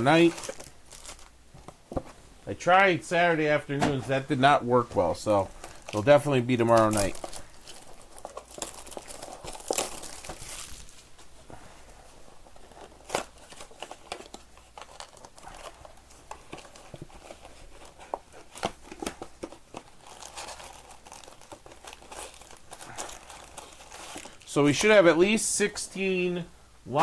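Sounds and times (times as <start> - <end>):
foil wrappers crinkling: 0.0 - 1.4, 4.0 - 11.4, 12.4 - 25.4.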